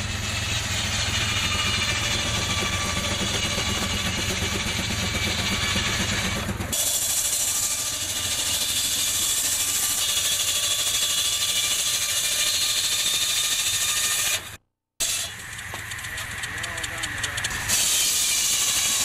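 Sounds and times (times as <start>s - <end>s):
saw cutting wood: 0.0s - 19.0s.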